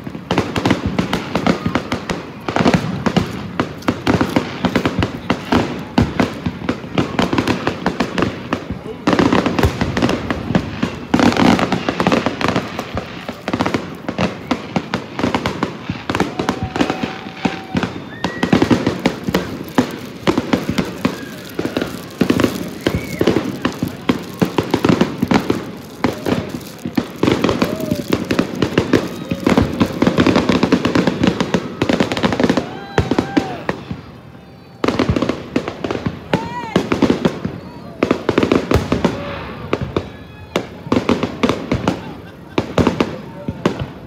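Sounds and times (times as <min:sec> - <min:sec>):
fireworks bursting and crackling: 0:00.0 - 0:44.0.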